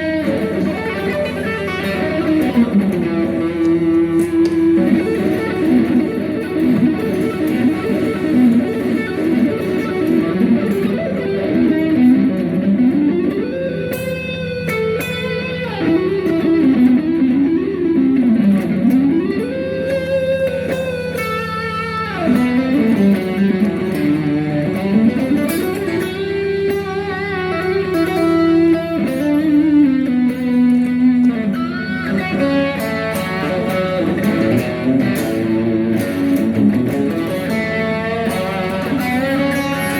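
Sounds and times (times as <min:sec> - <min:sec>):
electric guitar lead melody: 0:00.0 - 0:39.9.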